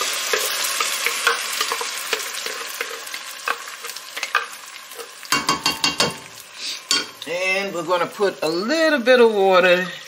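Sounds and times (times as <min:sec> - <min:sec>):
pur e sizzling in hot oil: 0:00.0 - 0:08.8.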